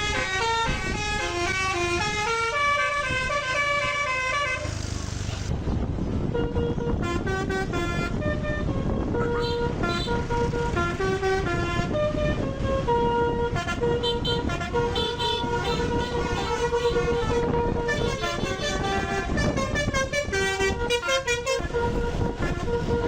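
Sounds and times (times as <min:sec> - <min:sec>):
bus musical horn melody: 0:00.0 - 0:04.8, 0:06.2 - 0:23.0.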